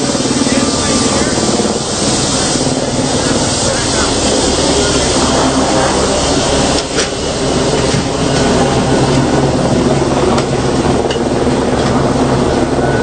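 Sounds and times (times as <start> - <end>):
engine hum: 0.0 - 13.0
road noise: 0.0 - 13.0.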